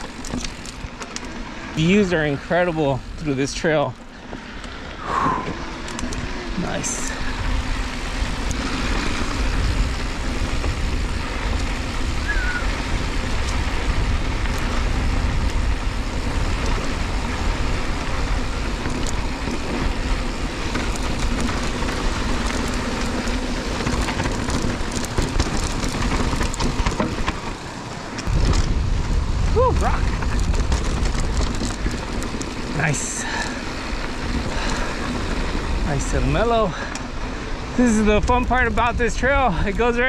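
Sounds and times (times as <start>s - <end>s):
bike rattling: 0.0s - 40.0s
bike tyres rumbling over dirt: 0.0s - 40.0s
wind buffeting microphone: 0.0s - 40.0s.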